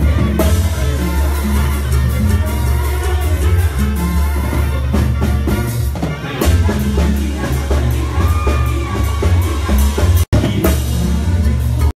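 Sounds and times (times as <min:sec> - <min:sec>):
trumpets and clarinets: 0:00.0 - 0:10.2
pulsing tuba bass: 0:00.0 - 0:11.9.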